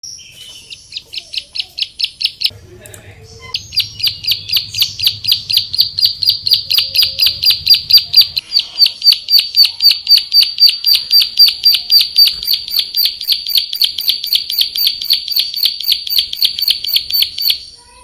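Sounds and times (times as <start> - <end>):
bird singing sharp high chirps: 0.0 - 2.5, 3.3 - 18.0.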